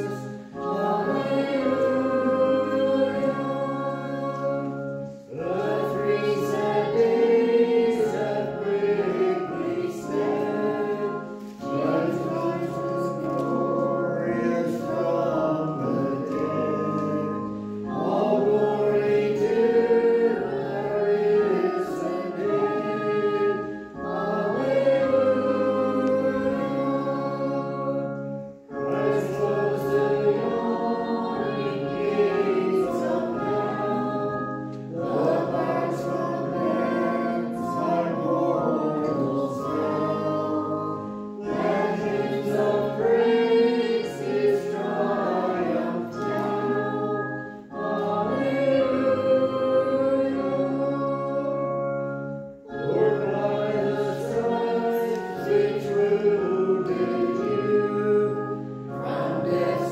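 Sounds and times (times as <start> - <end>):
congregation singing a hymn: 0.0 - 59.9
sustained accompaniment chords: 0.0 - 59.9.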